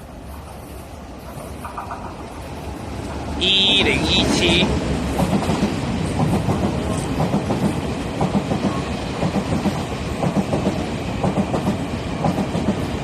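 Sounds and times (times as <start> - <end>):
train wheels clacking on rail joints: 0.0 - 3.3, 4.7 - 13.0.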